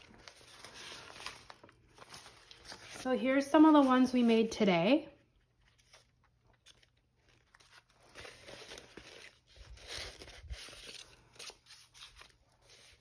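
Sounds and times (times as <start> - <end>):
paper rustling and crinkling: 0.0 - 4.5, 5.2 - 13.0.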